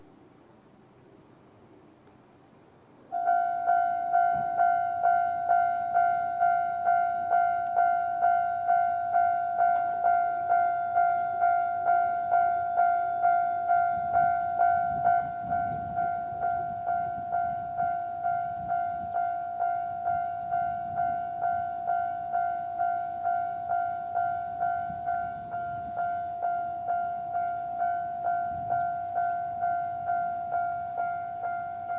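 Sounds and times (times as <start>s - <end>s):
level crossing alarm ringing: 3.1s - 31.9s.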